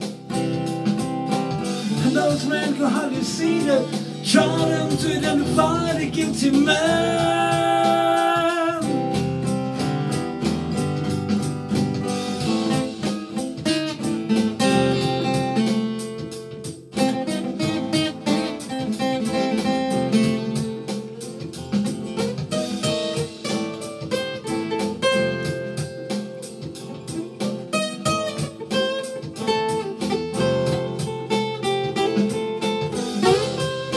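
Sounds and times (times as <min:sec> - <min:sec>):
instrumental rock music: 0:00.0 - 0:33.9
strummed acoustic guitar: 0:00.0 - 0:33.9.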